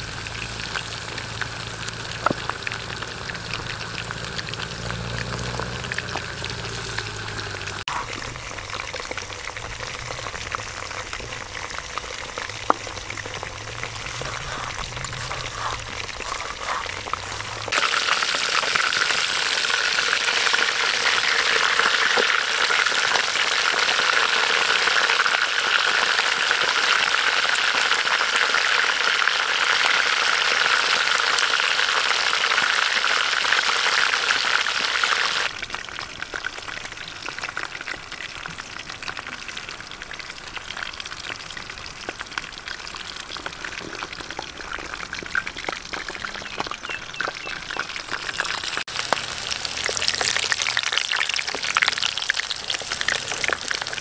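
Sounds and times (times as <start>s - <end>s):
oil crackles: 0.0s - 54.0s
oil sizzling in a wok: 0.0s - 54.0s.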